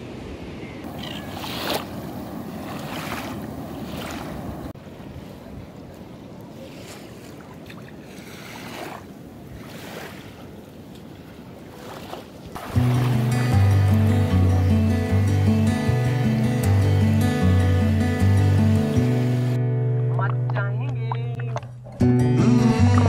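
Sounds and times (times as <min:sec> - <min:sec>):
small waves on sandy shore: 0:00.0 - 0:19.6.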